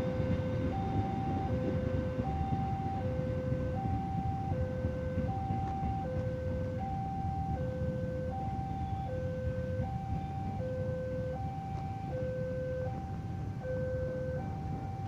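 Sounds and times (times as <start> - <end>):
constant low rumble: 0.0 - 15.0
two-tone electronic warning signal: 0.0 - 15.0.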